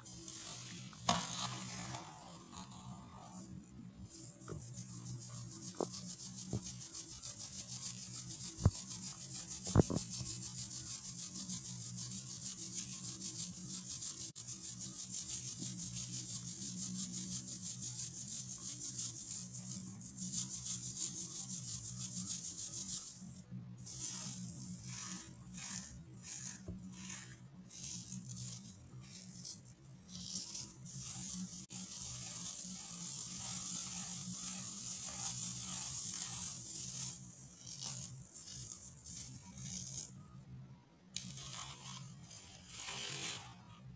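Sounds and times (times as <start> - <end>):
powder scratching through wire sieve: 4.1 - 40.1.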